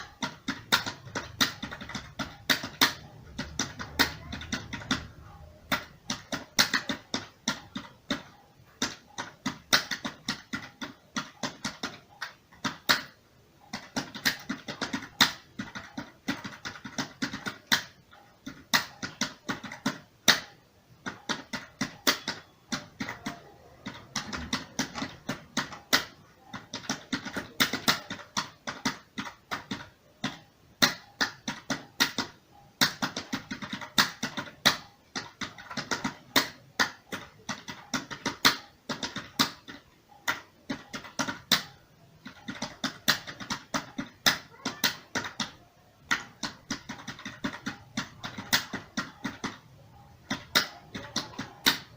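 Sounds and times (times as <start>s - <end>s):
computer keyboard typing: 0.0s - 51.9s.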